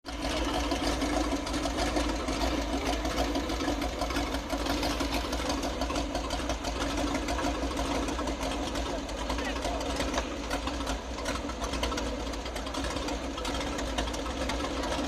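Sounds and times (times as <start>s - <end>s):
car engine running steadily: 0.0s - 15.0s.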